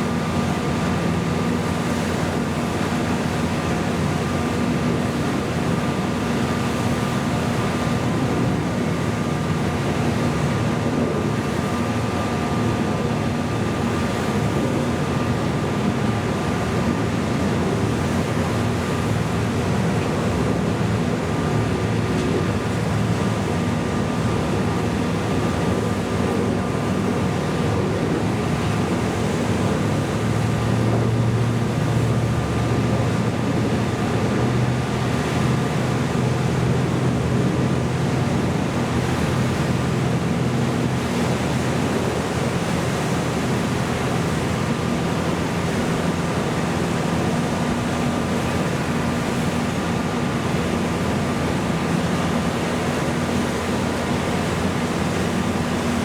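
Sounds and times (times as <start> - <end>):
boat engines droning: 0.0 - 56.0
rushing water: 0.0 - 56.0.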